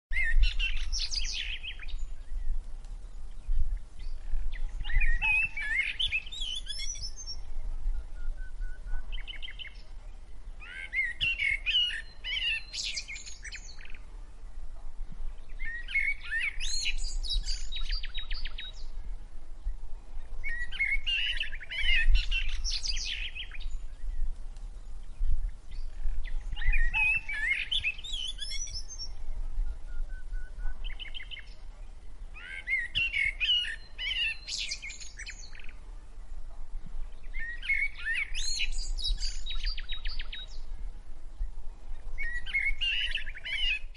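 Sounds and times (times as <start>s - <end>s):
songbird singing: 0.1s - 43.9s.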